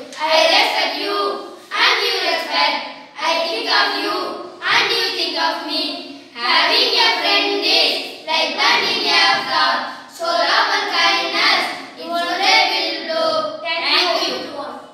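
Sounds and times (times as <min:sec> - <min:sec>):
boys chanting in unison: 0:00.0 - 0:14.9.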